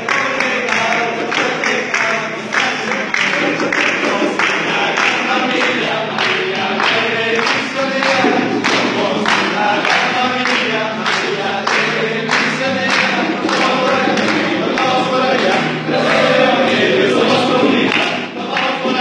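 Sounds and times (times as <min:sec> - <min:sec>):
men singing in unison: 0:00.0 - 0:19.0
rhythmic hand clapping: 0:00.0 - 0:19.0.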